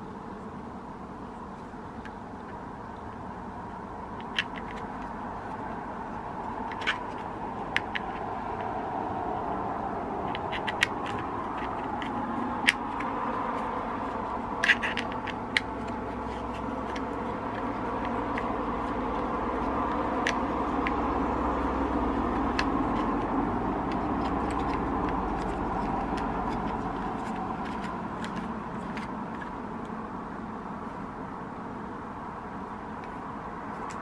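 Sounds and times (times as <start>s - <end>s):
moving car running noise: 0.7s - 34.0s.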